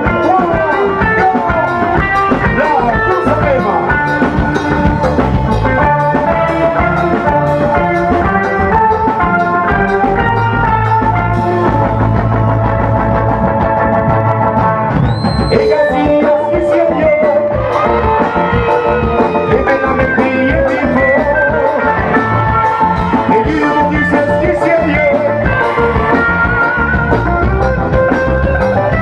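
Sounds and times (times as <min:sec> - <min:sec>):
keyboard melody: 0:00.0 - 0:29.0
live band music over pa: 0:00.0 - 0:29.0
steady drumbeat: 0:00.0 - 0:29.0.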